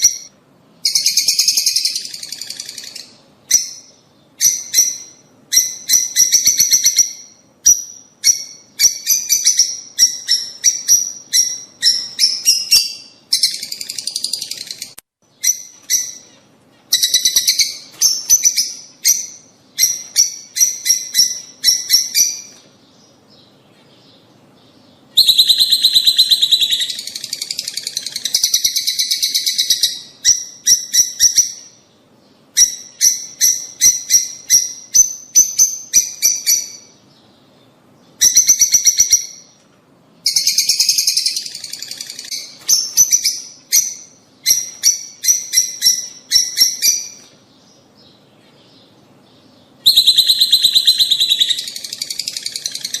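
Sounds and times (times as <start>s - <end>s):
lovebirds chattering: 8.2s - 39.6s, 40.2s - 53.0s.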